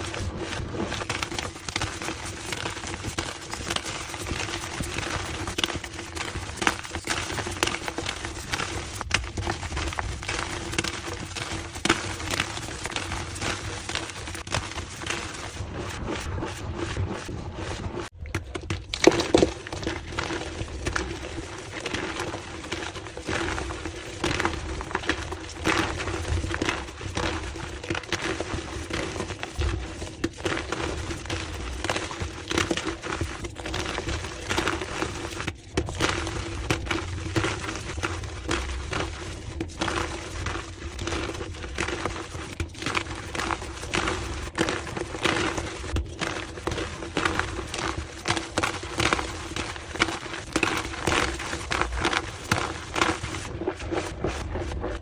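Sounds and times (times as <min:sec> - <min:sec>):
chalk crunching and crackling: 0:00.0 - 0:55.0.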